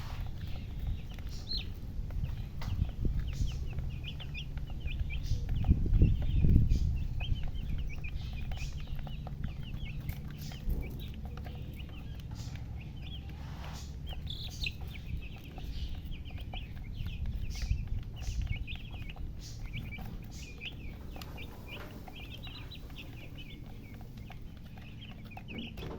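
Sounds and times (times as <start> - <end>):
chicks peeping: 0.0 - 25.9
steady low rumble: 0.0 - 25.9.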